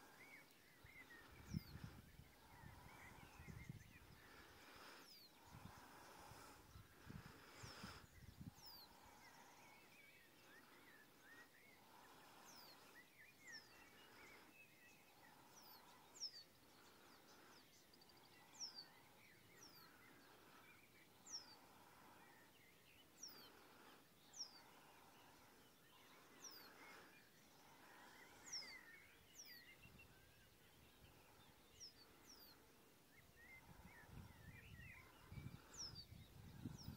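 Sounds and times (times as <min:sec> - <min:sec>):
soft bird chirping: 0:00.0 - 0:36.9.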